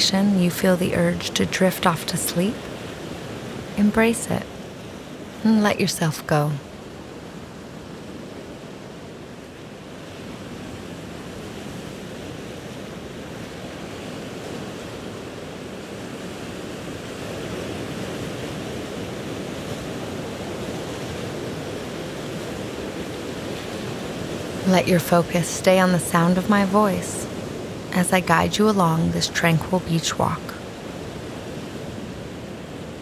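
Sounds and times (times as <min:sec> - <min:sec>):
ocean waves washing: 0:00.0 - 0:33.0.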